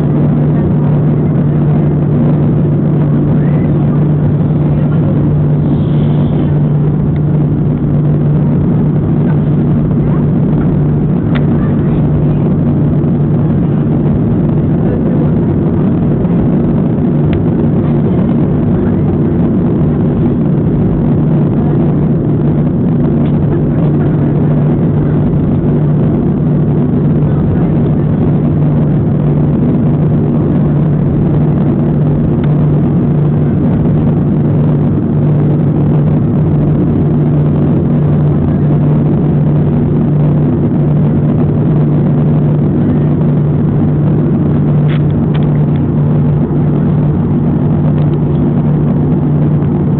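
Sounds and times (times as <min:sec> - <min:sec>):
jet engines droning: 0:00.0 - 0:49.9.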